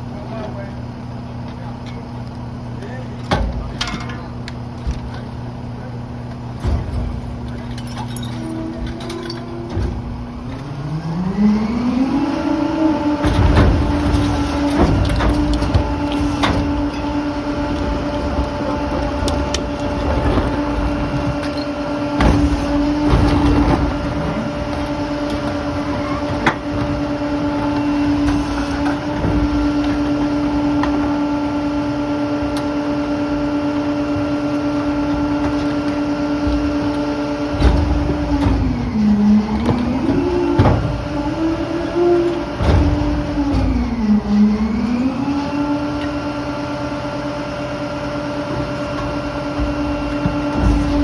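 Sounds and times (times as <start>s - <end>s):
garbage truck diesel engine: 0.0s - 51.0s
knocks and clunks: 3.1s - 10.8s, 13.1s - 45.0s, 48.4s - 51.0s.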